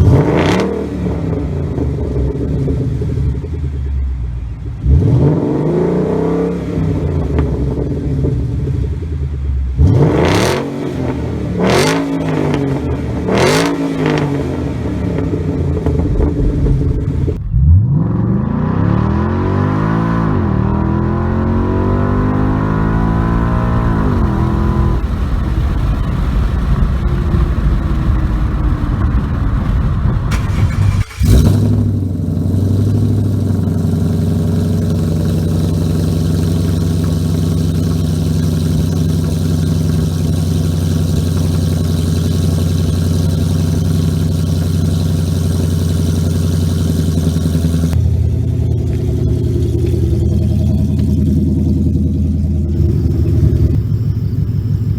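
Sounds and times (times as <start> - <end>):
car engine exhaust: 0.0 - 54.9.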